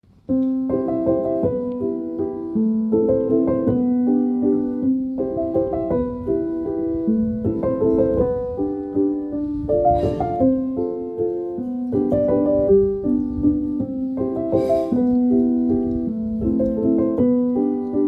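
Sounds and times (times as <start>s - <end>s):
gentle piano music: 0.1s - 18.0s.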